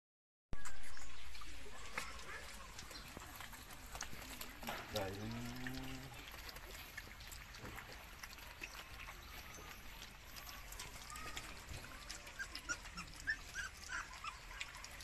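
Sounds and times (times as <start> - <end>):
puppies eating kibble: 0.6 - 15.0.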